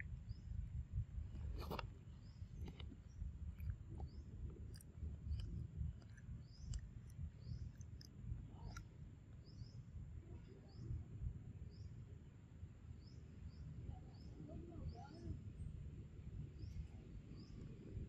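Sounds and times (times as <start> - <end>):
steady low rumble: 0.0 - 18.0
small birds chirping: 1.3 - 12.0, 12.9 - 15.8, 16.4 - 18.0.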